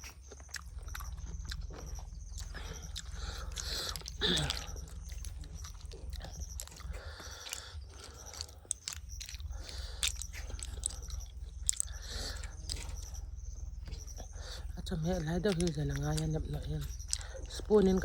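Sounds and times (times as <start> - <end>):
chewing and crunching: 0.0 - 18.0.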